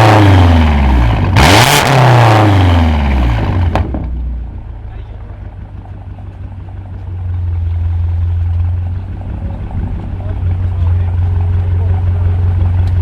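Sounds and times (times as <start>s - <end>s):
car engine idling: 2.3s - 13.0s.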